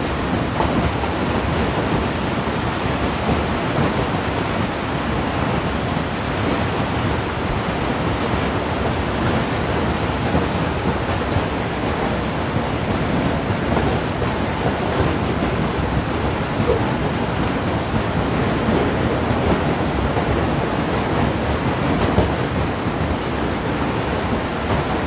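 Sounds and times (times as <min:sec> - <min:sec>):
hail and rain pelting: 0:00.0 - 0:25.0.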